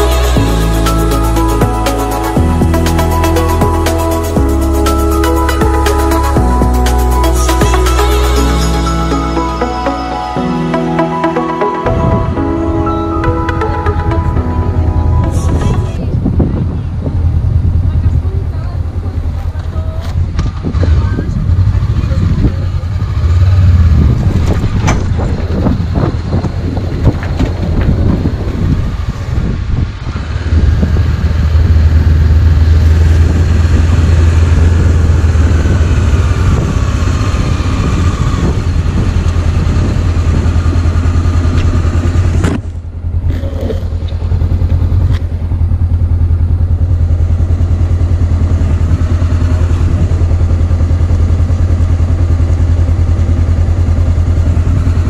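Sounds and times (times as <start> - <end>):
motorcycle engine running: 0.0 - 8.9, 13.4 - 55.0.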